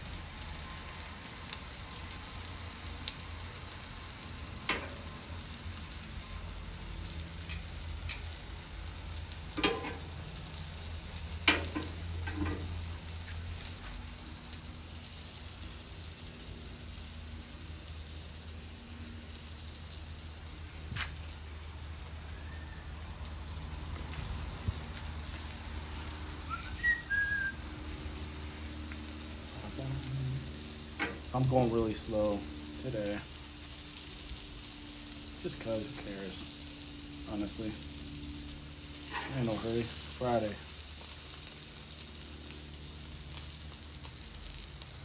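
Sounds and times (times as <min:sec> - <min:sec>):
sausages and onions sizzling: 0:00.0 - 0:45.0.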